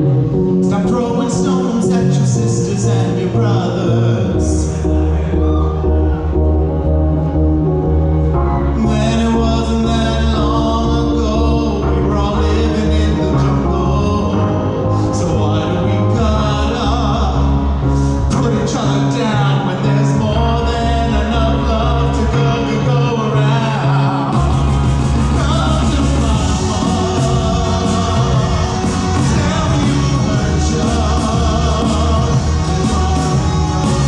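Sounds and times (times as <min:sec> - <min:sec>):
person singing pop ballad: 0:00.0 - 0:07.2, 0:08.6 - 0:34.0
backing track with bass line: 0:00.0 - 0:34.0.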